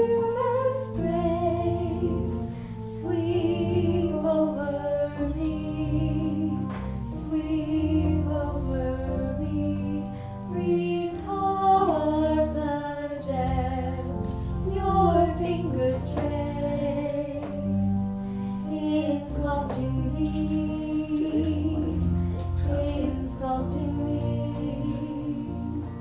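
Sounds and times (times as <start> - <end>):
church choir singing slowly: 0.0 - 26.0
sustained low accompaniment: 0.0 - 26.0.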